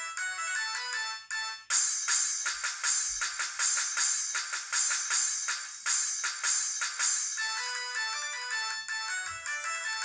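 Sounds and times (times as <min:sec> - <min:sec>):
percussive ringtone beat: 0:00.0 - 0:10.0
ringtone melody of clear notes: 0:00.0 - 0:10.0.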